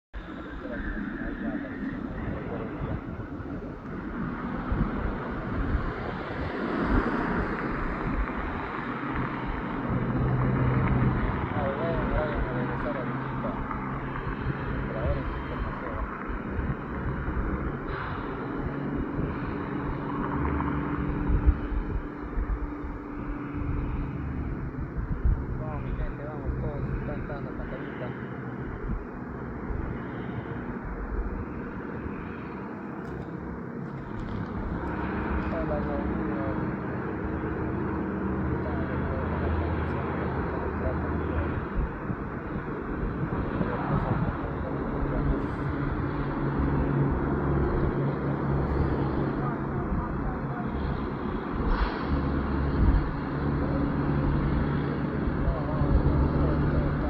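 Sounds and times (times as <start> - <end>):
truck engine drone: 0.1 - 57.0
tyre and road noise: 0.2 - 57.0.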